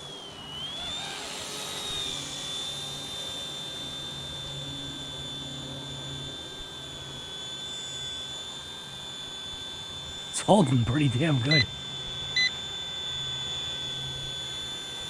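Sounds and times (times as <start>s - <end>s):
small helicopter motor whine: 0.0s - 10.3s, 11.7s - 15.0s.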